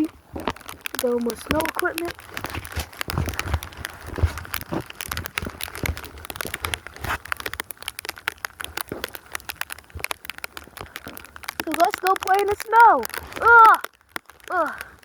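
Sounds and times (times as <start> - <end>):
crackling and rustling: 0.0 - 15.0.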